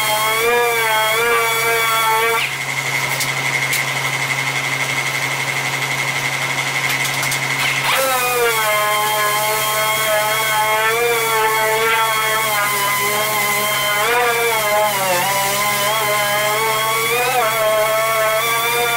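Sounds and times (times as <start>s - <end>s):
sander whining: 0.0s - 18.9s.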